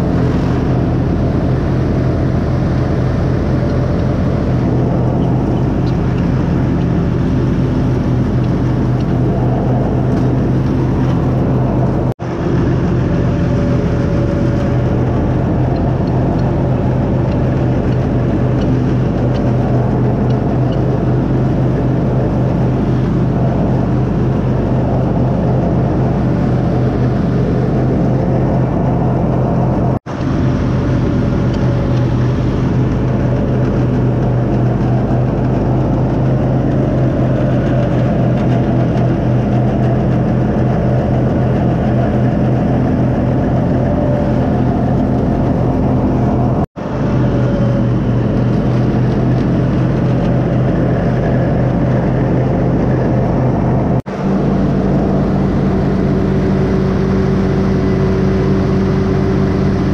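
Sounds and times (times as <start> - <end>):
riding mower engine running: 0.0 - 59.9.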